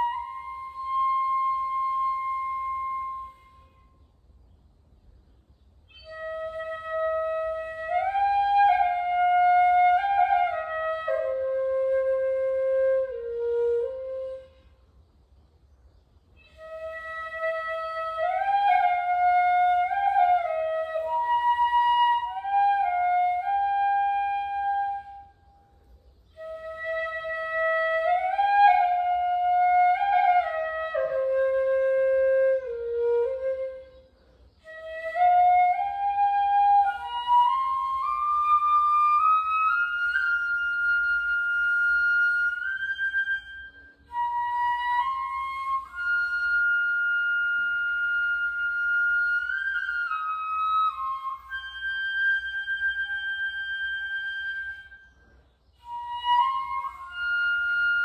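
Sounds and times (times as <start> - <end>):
bamboo flute solo melody: 0.0 - 4.3, 5.8 - 15.0, 16.4 - 58.0.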